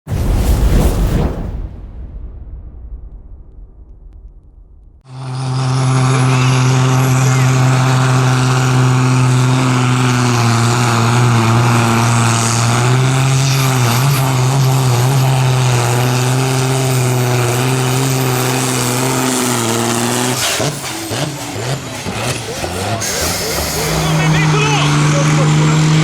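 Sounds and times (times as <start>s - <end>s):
tractor engine at high revs: 5.0s - 26.0s.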